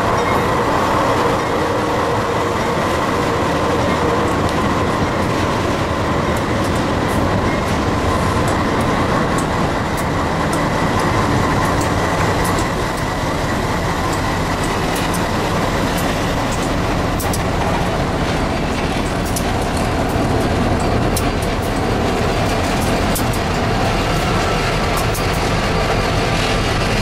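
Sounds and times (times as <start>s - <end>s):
diesel locomotive engines rumbling: 0.0s - 27.0s
tank cars rolling by: 0.0s - 27.0s
train wheels on rail: 0.0s - 27.0s.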